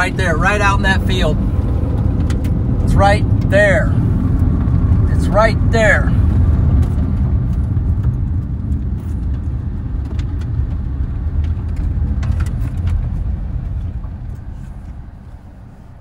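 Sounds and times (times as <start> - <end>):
car driving on gravel road: 0.0 - 16.0.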